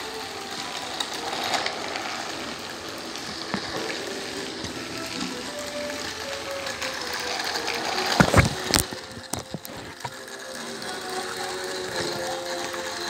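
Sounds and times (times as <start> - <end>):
toy train motors whirring: 0.0 - 13.0.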